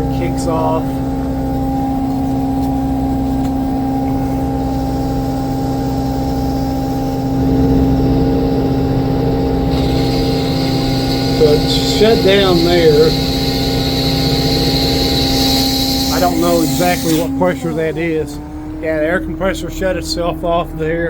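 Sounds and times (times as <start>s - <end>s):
air compressor humming: 0.0s - 21.0s
diesel engine running: 0.0s - 21.0s.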